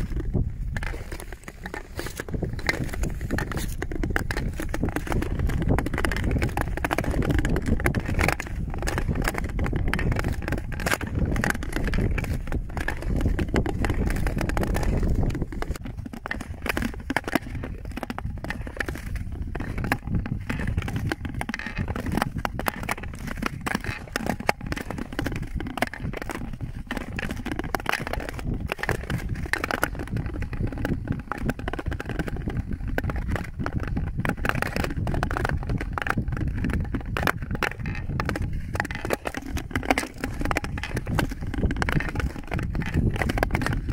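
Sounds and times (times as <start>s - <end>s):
ice skates scraping on ice: 0.0s - 43.9s.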